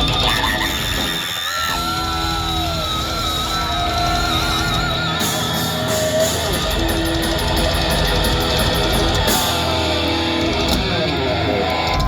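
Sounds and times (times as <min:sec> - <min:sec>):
distorted electric guitars: 0:00.0 - 0:12.0
drums with fast cymbal hits: 0:00.0 - 0:12.0.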